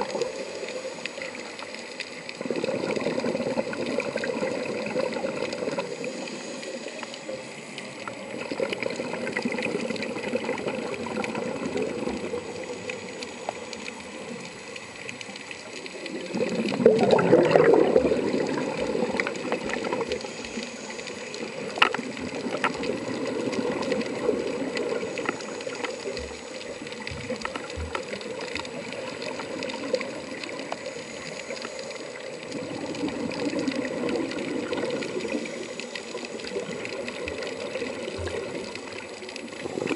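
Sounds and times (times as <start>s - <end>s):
divers' exhaled air bubbling: 0.0s - 39.9s
muffled underwater noise: 0.0s - 39.9s
water rush: 0.0s - 39.9s.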